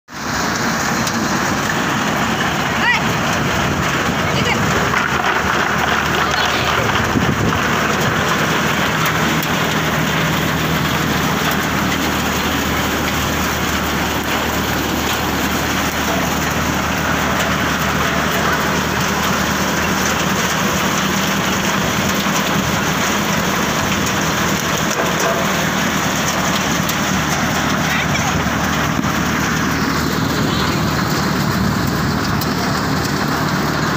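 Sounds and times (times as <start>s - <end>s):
low engine hum: 0.1s - 33.9s
thresher rushing rattle: 0.1s - 33.9s.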